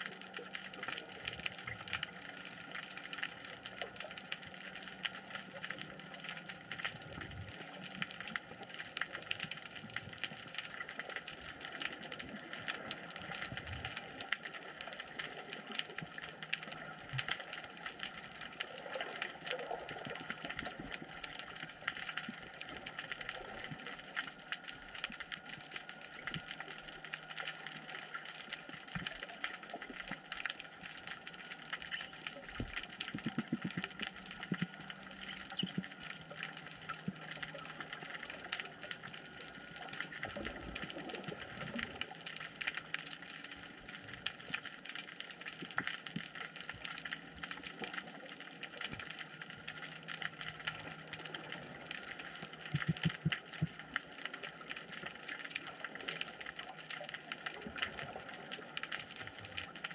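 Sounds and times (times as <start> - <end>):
underwater crackle of tiny clicks: 0.0 - 59.9.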